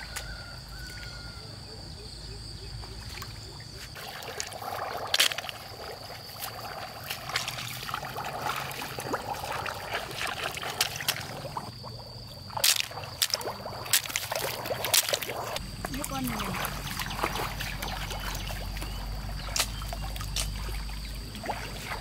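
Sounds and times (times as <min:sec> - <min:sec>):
water splashing and trickling: 0:02.8 - 0:22.0.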